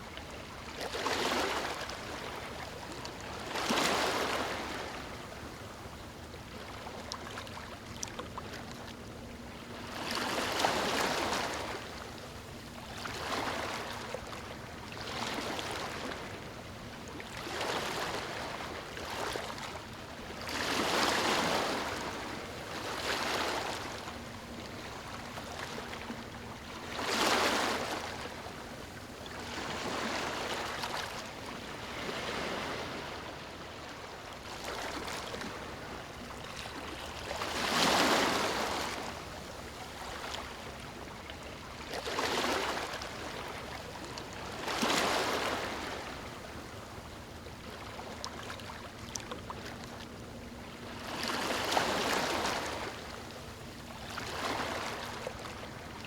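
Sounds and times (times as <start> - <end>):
small waves lapping on beach: 0.0 - 56.0.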